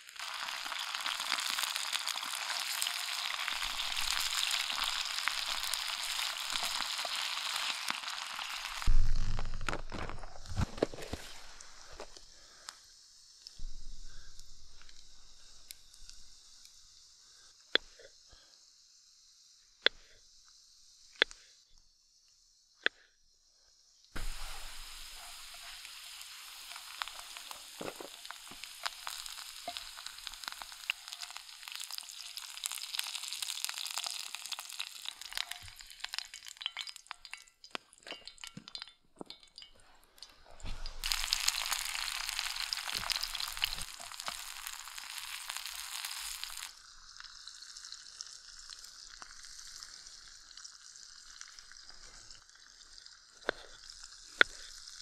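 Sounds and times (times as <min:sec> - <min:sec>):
food sizzling in a pan: 0:00.0 - 0:10.1, 0:10.8 - 0:17.5, 0:24.2 - 0:55.0.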